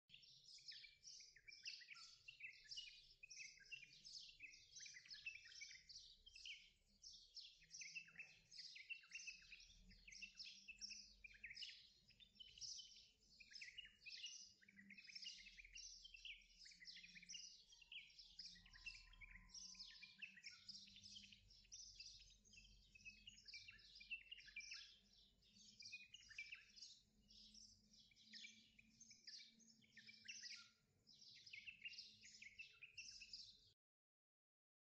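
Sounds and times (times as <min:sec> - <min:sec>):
faint chorus of birds chirping: 0:00.0 - 0:33.8.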